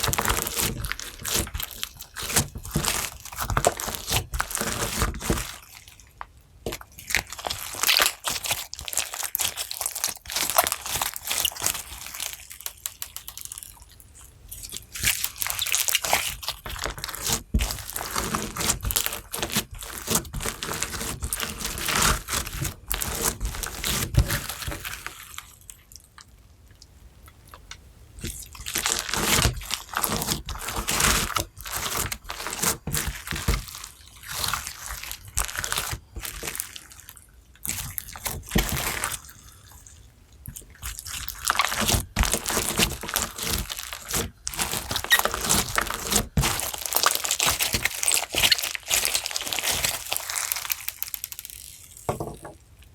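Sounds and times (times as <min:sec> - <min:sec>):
slime squishing and popping: 0:00.0 - 0:13.7, 0:14.7 - 0:25.5, 0:27.3 - 0:36.9, 0:37.6 - 0:39.3, 0:40.5 - 0:52.1.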